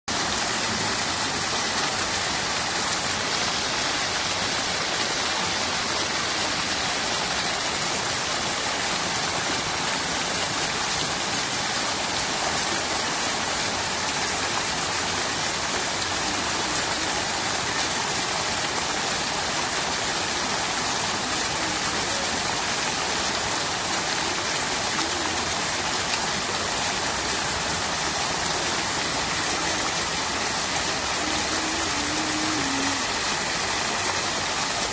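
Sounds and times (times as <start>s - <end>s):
fountain water splashing: 0.1s - 34.9s.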